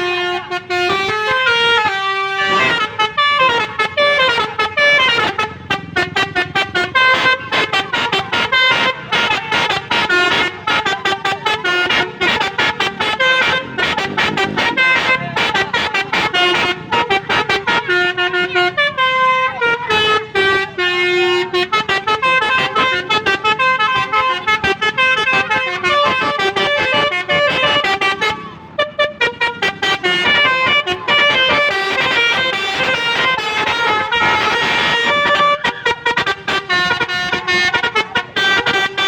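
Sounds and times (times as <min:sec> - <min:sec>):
musical car horn playing a tune: 0:00.0 - 0:39.0.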